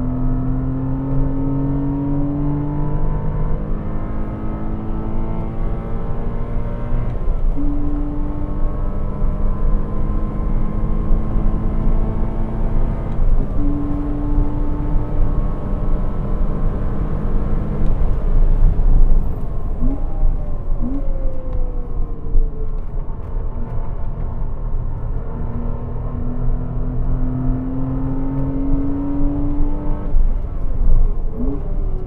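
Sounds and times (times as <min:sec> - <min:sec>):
car engine running hard: 0:00.0 - 0:32.0
road and wind rumble: 0:00.0 - 0:32.0.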